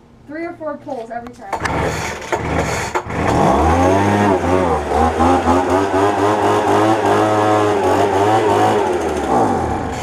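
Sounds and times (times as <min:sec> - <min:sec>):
leaf blower engine revving: 0:01.5 - 0:10.0.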